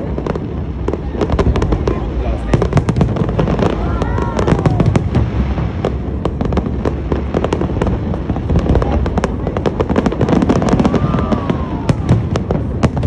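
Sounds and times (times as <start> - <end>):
fireworks cracking and popping: 0.0 - 13.0
low rumble of fireworks bursts: 0.0 - 13.0.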